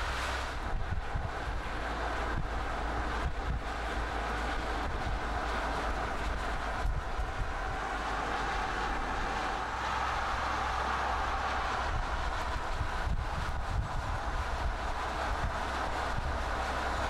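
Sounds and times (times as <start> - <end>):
tyre and road noise: 0.0 - 17.0
wind noise: 0.0 - 17.0.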